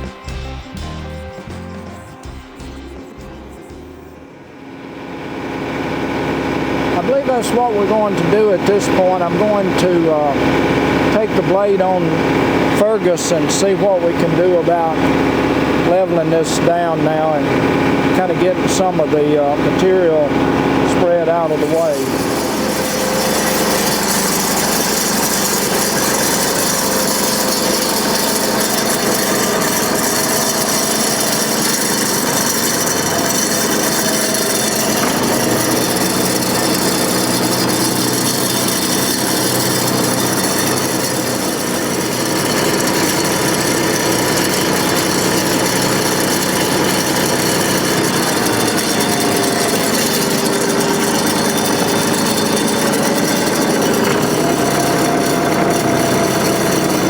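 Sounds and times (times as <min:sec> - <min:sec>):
tractor engine running: 0:00.0 - 0:57.0
blade pushing dirt: 0:06.9 - 0:57.0.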